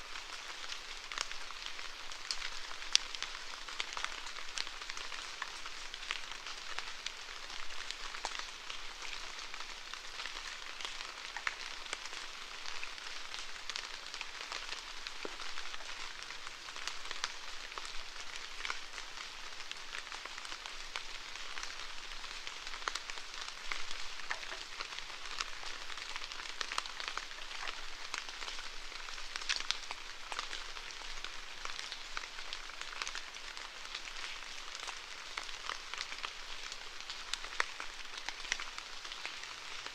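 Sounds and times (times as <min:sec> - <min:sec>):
raindrops ticking on a surface: 0:00.0 - 0:39.9
steady rainfall: 0:00.0 - 0:39.9.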